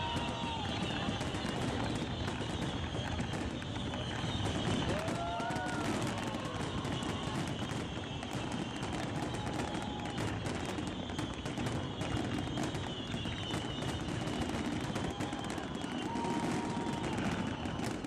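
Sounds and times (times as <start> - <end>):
faint whistling tones: 0.0 - 18.0
fireworks crackling pops: 0.0 - 18.0.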